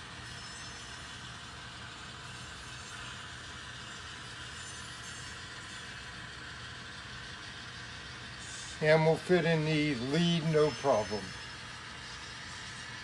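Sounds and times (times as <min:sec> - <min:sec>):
model train running on track: 0:00.0 - 0:13.0.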